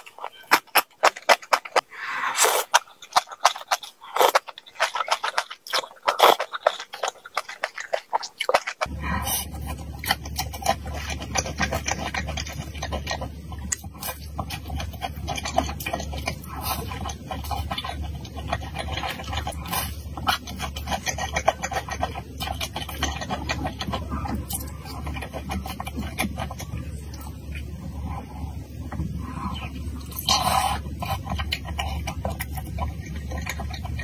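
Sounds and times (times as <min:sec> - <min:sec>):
chewing with wet crackly clicks: 0:00.0 - 0:01.8, 0:02.6 - 0:27.9, 0:28.8 - 0:34.0.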